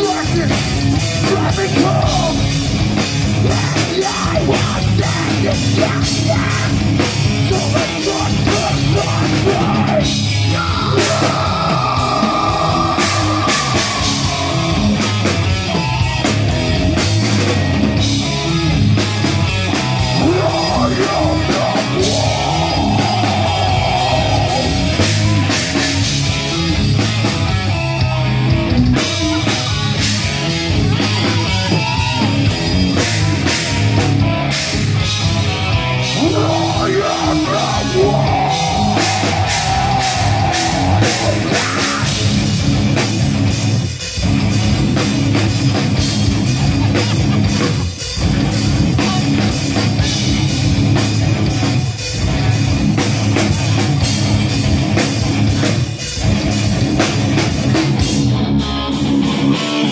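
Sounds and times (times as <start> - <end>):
bass guitar: 0.0 - 59.9
distorted electric guitars: 0.0 - 59.9
drum kit: 0.0 - 59.9.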